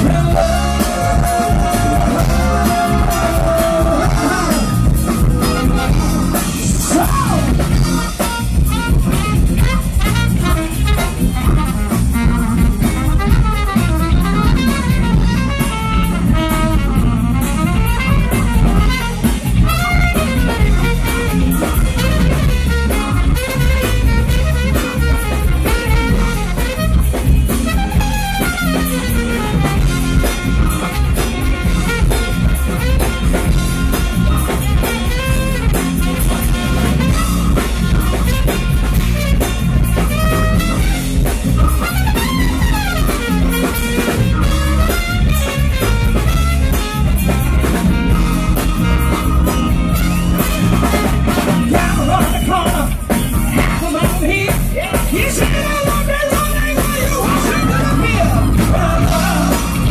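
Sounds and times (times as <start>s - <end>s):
bass guitar: 0.0s - 59.9s
drum kit: 0.0s - 59.9s
electric guitar: 0.0s - 59.9s
saxophone and trumpet: 0.0s - 59.9s.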